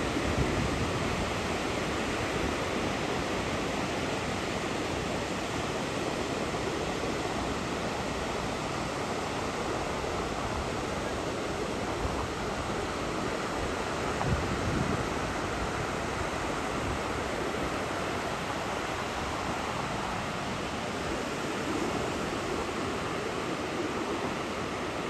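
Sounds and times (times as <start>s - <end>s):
ocean surf washing: 0.0s - 25.0s.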